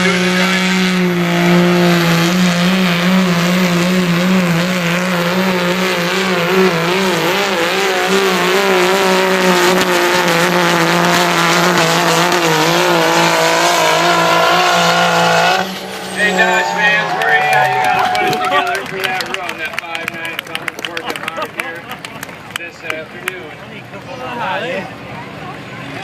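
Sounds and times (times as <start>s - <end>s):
diesel truck engine at high revs: 0.0s - 26.0s.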